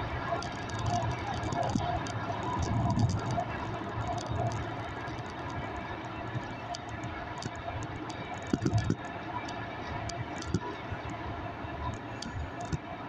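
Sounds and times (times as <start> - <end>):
vehicle rumble and rattle: 0.0 - 11.2
small ticks: 0.2 - 11.2, 11.8 - 12.9.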